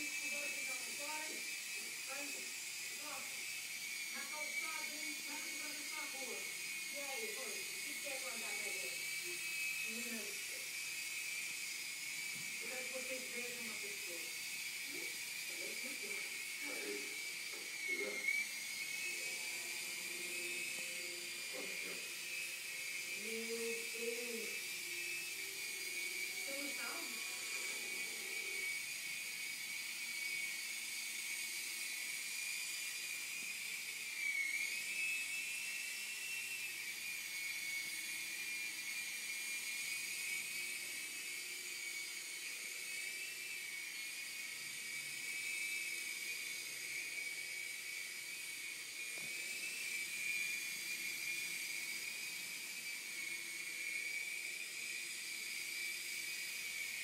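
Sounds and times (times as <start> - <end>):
electric rotor motors whining: 0.0 - 57.0.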